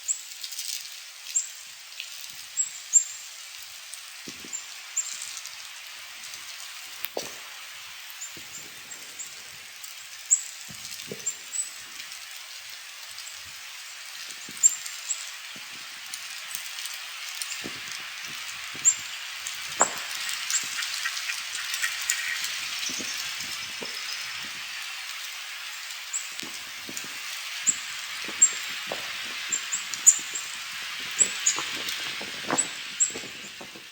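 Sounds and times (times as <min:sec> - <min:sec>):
snowstorm hiss: 0:00.8 - 0:33.9.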